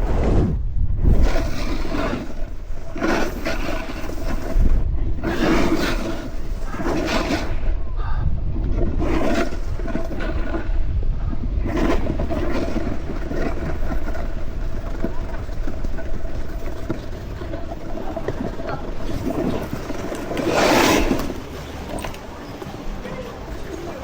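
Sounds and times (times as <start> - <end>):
snowboard scraping over snow: 0.0 - 7.8, 8.6 - 24.0
wind rumble on microphone: 0.0 - 24.0.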